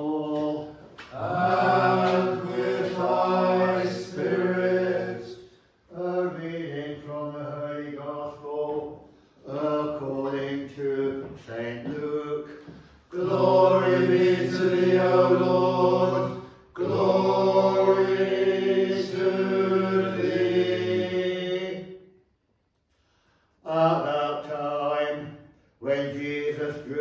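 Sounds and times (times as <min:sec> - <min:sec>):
men singing liturgical chant: 0:00.0 - 0:21.9, 0:23.6 - 0:27.0.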